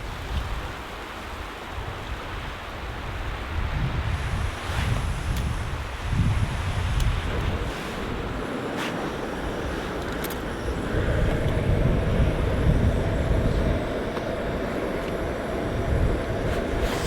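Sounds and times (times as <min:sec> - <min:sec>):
blizzard wind gusts: 0:00.0 - 0:17.0.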